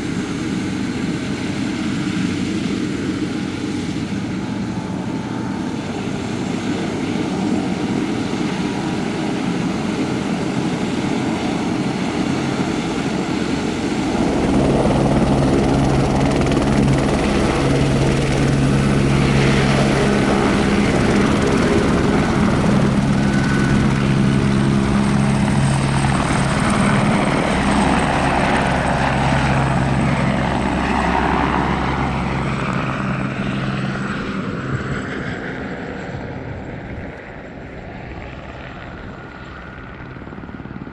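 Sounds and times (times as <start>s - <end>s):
helicopter hovering and lifting off: 0.0s - 40.9s.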